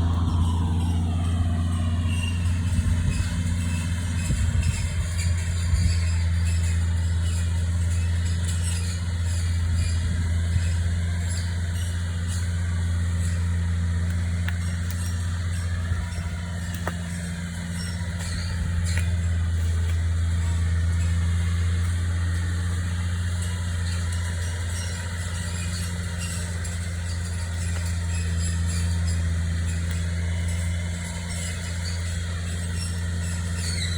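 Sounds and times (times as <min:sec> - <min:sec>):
machine engine humming: 0:00.0 - 0:33.9.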